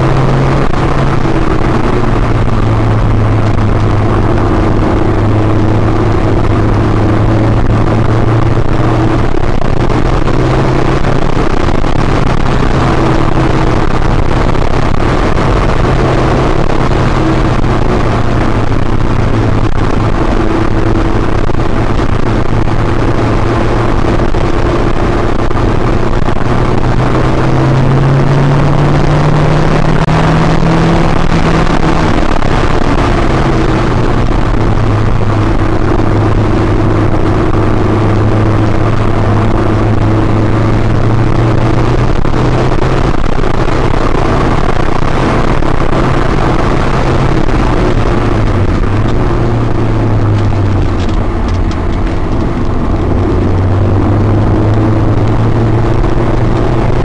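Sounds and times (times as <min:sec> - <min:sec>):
car engine pulling hard: 0:00.0 - 0:57.0
road and wind noise: 0:00.0 - 0:57.0.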